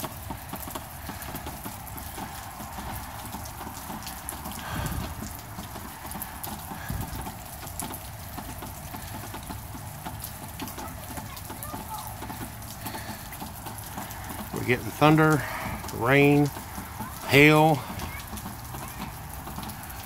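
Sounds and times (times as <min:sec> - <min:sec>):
rain and hail pattering: 0:00.0 - 0:20.0.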